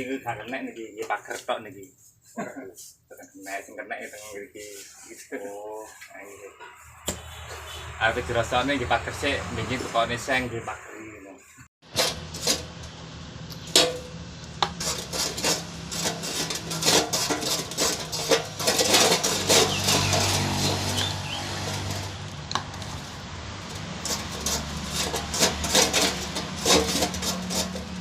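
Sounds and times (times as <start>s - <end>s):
wire brush scraping pipe: 0.0s - 10.4s, 11.8s - 28.0s.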